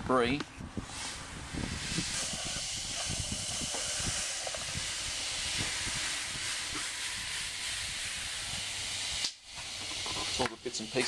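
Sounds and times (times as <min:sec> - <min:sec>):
grit hissing through wire sieve: 0:00.8 - 0:11.0.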